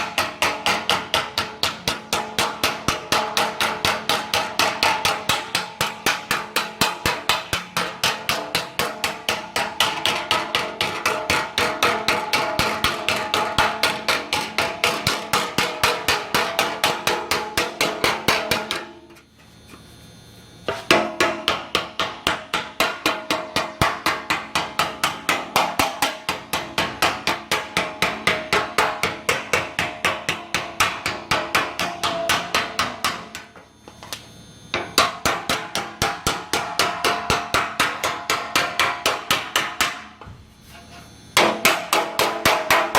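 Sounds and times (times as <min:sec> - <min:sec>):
hammer striking sheet metal: 0:00.0 - 0:19.2, 0:20.7 - 0:33.7, 0:34.7 - 0:42.9.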